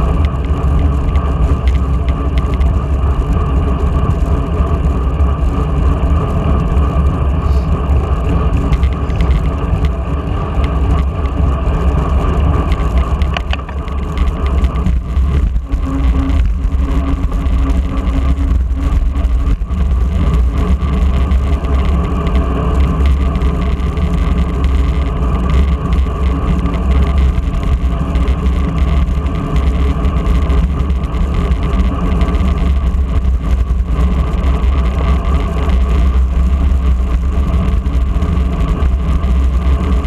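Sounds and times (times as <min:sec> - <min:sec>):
road and tyre rumble: 0:00.0 - 0:40.0
wind rushing over microphone: 0:00.0 - 0:40.0.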